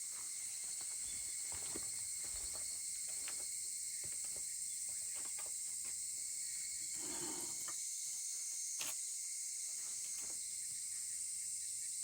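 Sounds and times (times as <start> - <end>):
insects chirring: 0.1 - 12.0.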